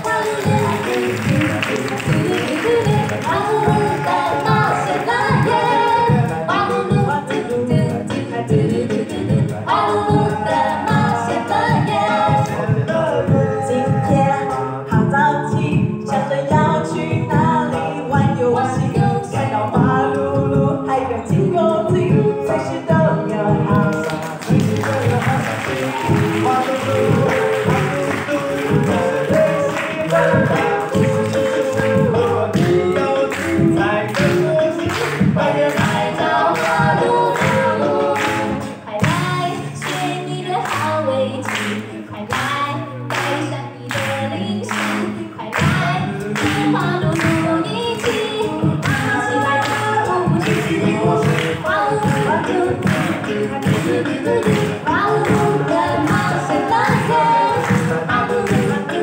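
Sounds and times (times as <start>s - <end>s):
voices singing a cappella: 0.0s - 59.0s.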